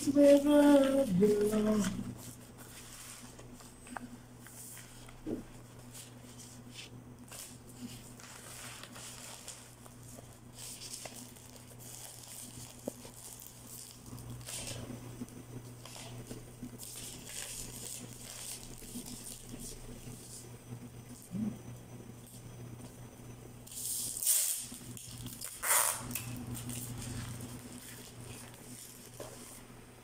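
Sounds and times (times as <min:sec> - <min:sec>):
paper and cellophane rustling: 0:00.0 - 0:14.9, 0:15.7 - 0:20.4, 0:23.7 - 0:29.8.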